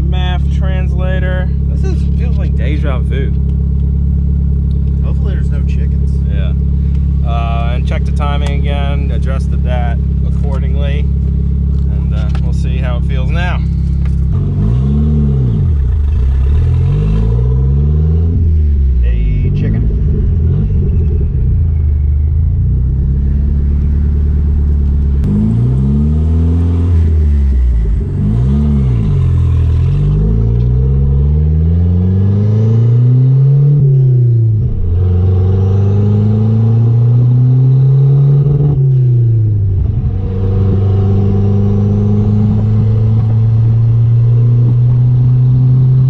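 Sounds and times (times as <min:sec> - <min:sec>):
car engine accelerating through gears: 0:01.6 - 0:46.0.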